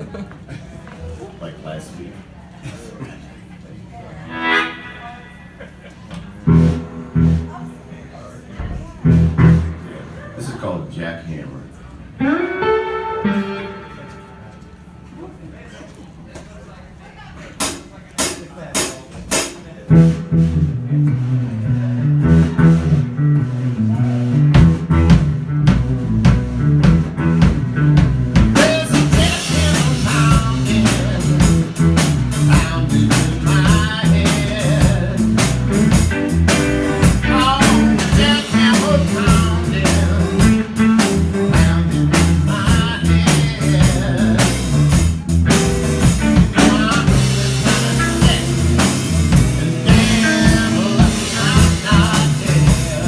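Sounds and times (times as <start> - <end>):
blues band playing live: 4.2 - 8.0, 8.6 - 10.3, 12.2 - 15.1, 17.6 - 53.0.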